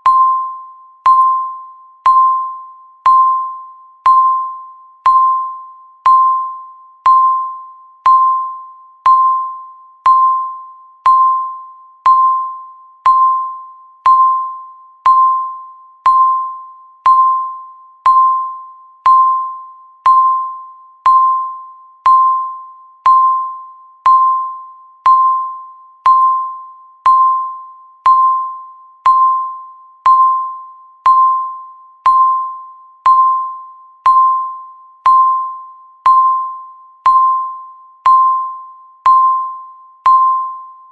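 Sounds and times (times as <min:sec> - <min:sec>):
countdown timer beeping: 0:00.0 - 0:40.9.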